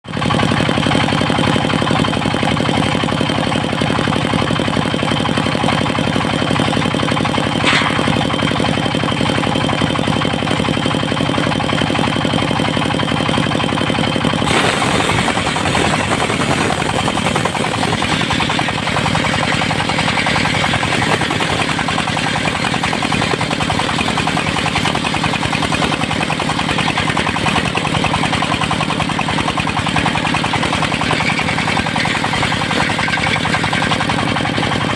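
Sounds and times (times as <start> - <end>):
sawmill engine knocking: 0.1 - 34.9.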